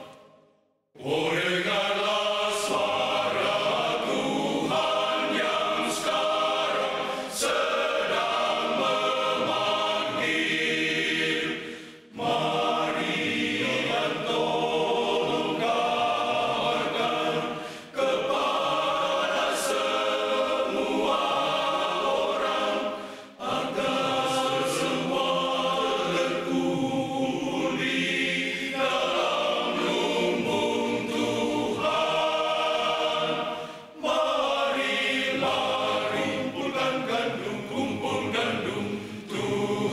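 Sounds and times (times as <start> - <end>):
men's choir singing: 1.0 - 39.9.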